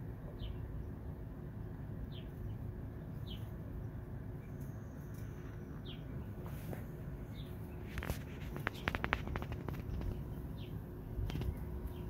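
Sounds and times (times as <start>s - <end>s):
low background rumble: 0.0s - 12.0s
ducklings peeping: 2.1s - 12.0s.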